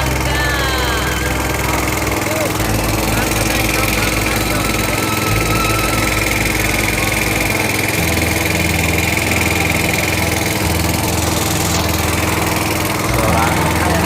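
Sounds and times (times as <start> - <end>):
small boat engine running: 0.0 - 14.0.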